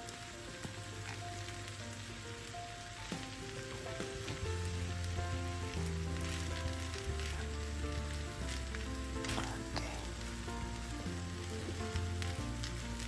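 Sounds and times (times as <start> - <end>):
rice sizzling in frying pan: 0.0 - 13.0
soft ballad music: 0.0 - 13.0.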